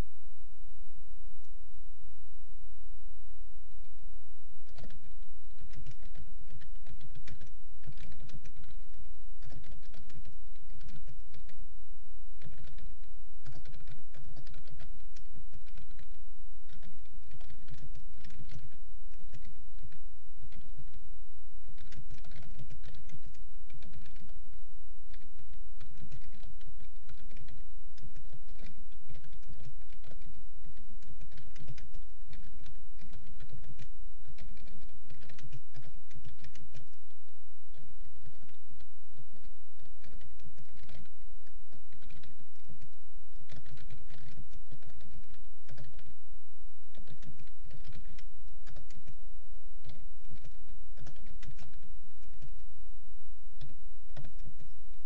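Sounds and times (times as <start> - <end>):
steady low hum: 0.0 - 55.0
fast typing on a keyboard: 4.6 - 11.6, 12.4 - 21.0, 21.6 - 46.2, 46.8 - 49.2, 49.8 - 52.6, 53.6 - 54.7.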